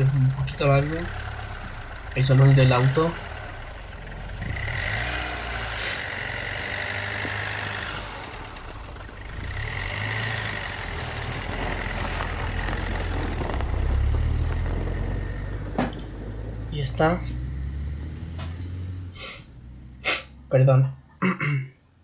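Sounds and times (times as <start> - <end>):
car engine starting and driving off: 0.0 - 21.5.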